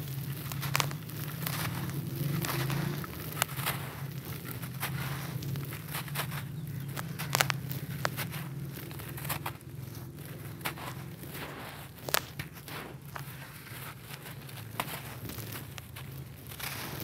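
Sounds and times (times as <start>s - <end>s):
dirt pieces cracking off: 0.0s - 17.0s
dry dirt crunching and crumbling: 0.0s - 17.0s
low steady hum: 0.0s - 17.0s.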